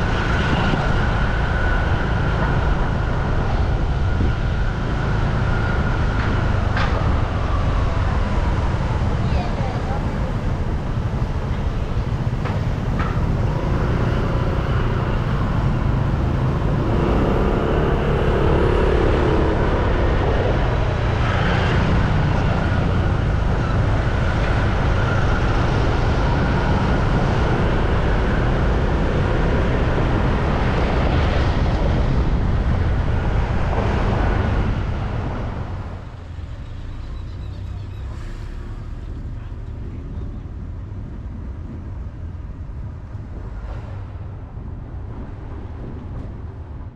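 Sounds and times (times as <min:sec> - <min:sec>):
road traffic rumble: 0:00.0 - 0:46.9.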